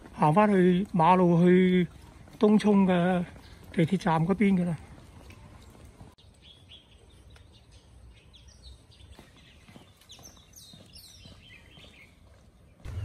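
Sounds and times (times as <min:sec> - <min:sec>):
faint small birds chirping: 0:01.6 - 0:13.0.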